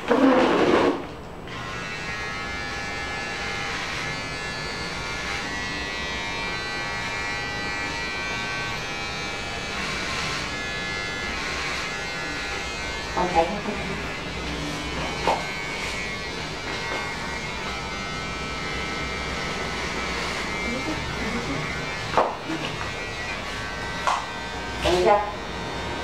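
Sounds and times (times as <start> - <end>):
electric hair clippers buzzing: 0.1 - 26.0.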